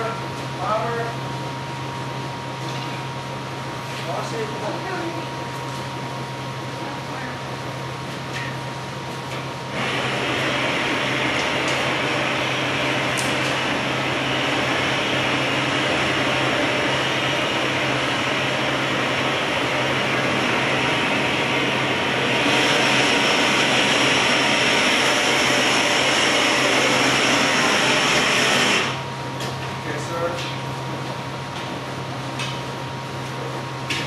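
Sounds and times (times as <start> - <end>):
gas burner roaring: 0.0 - 34.0.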